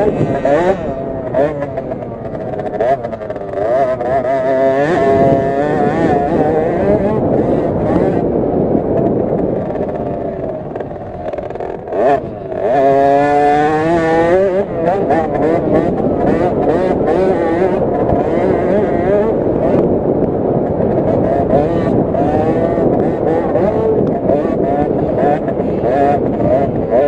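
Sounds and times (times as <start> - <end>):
minibike engine revving: 0.0 - 27.0.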